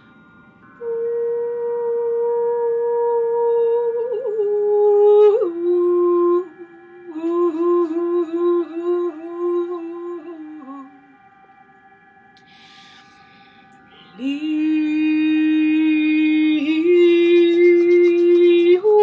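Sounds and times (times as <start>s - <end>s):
faint steady drone: 0.0s - 19.0s
wordless voice singing: 3.2s - 19.0s.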